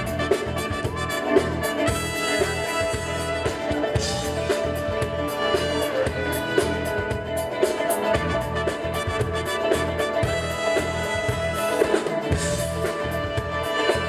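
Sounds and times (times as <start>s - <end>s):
live band playing disco-funk: 0.0s - 14.0s.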